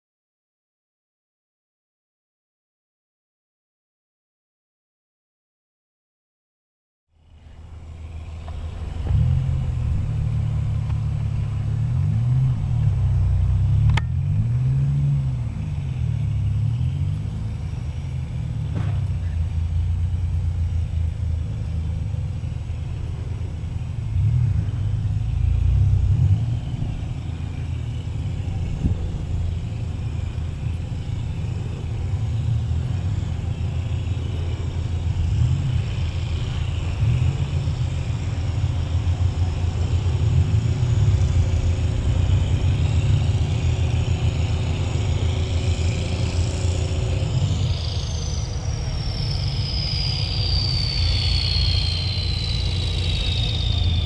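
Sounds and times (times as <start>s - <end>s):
locomotive engine rumble: 7.2s - 54.0s.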